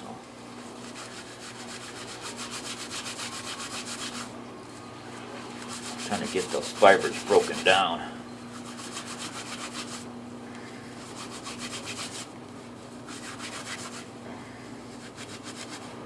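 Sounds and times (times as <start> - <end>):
bark fibres rubbed between hands: 0.6 - 7.8, 8.5 - 10.1, 10.9 - 14.1, 14.8 - 16.0.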